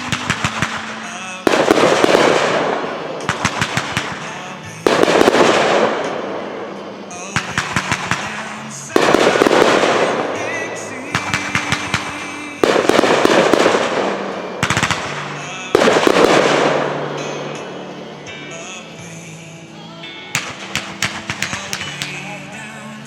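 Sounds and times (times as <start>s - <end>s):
sharp pops: 0.0s - 17.7s, 20.4s - 22.2s
fireworks bursting with crackling: 0.0s - 19.7s, 20.3s - 23.0s
faint music: 0.0s - 23.0s.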